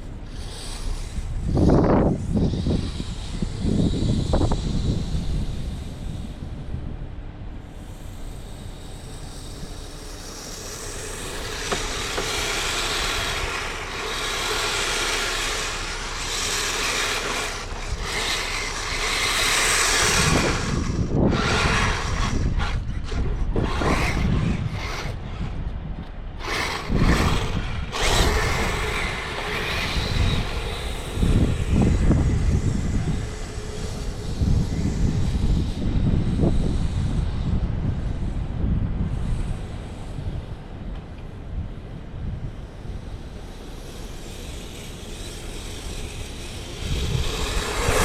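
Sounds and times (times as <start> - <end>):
rc tracked vehicle motors running: 0.0 - 7.0, 7.6 - 41.5, 42.2 - 48.0
low rumbles: 0.0 - 48.0.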